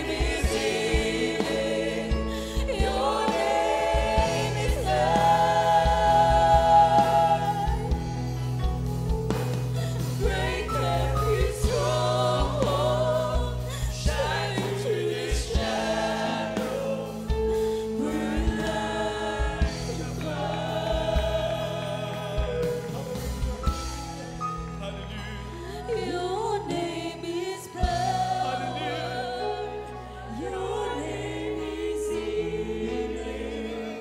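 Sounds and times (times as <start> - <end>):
choir singing gospel song: 0.0 - 34.0
low instrumental accompaniment: 0.0 - 34.0.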